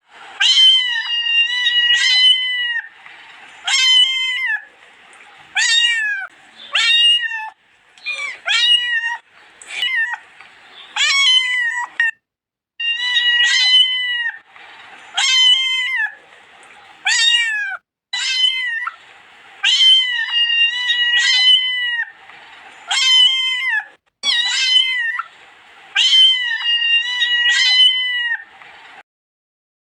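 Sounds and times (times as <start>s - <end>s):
cat meowing: 0.4s - 4.7s, 5.5s - 12.2s, 12.8s - 14.5s, 15.1s - 16.2s, 17.0s - 19.0s, 19.6s - 22.2s, 22.8s - 25.3s, 25.9s - 29.0s.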